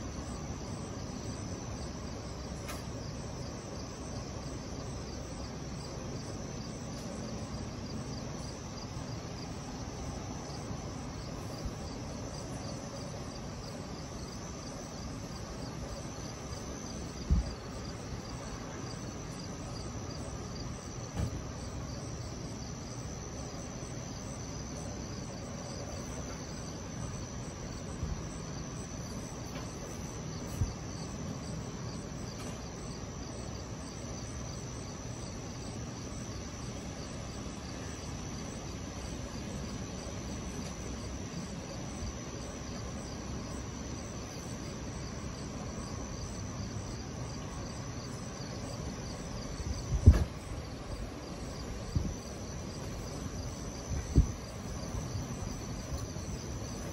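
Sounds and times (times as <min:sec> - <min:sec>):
low steady background noise: 0:00.0 - 0:56.9
night insects chirping: 0:00.0 - 0:56.9.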